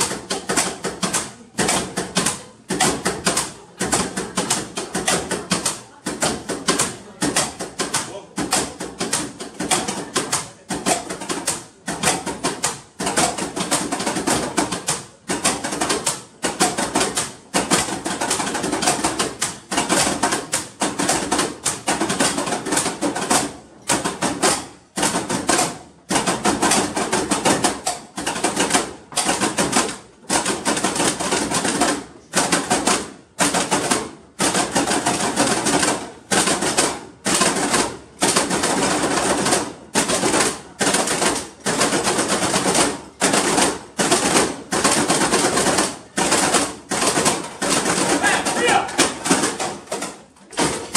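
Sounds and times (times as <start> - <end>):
toolboxes played as percussion: 0.0 - 50.9.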